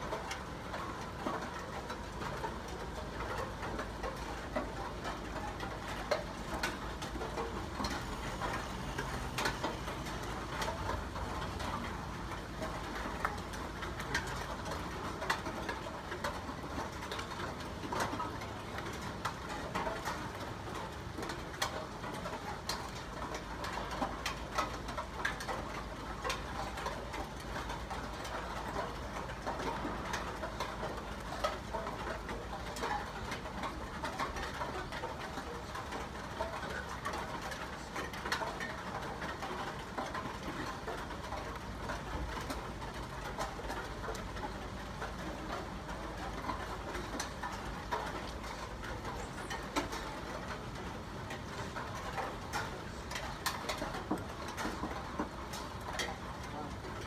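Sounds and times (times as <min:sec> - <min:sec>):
raindrops ticking on surfaces: 0:00.0 - 0:57.0
steady rain: 0:00.0 - 0:57.0.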